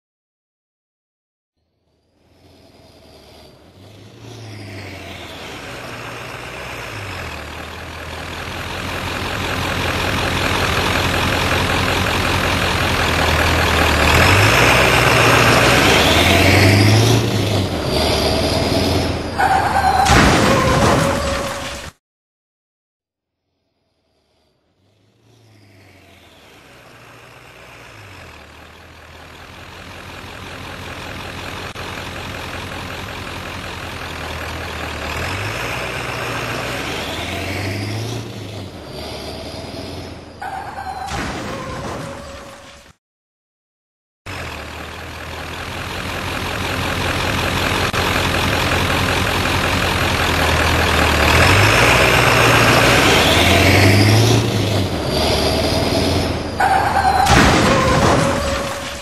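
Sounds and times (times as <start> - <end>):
truck engine approaching: 1.8 - 21.5, 24.0 - 42.2, 44.3 - 59.0.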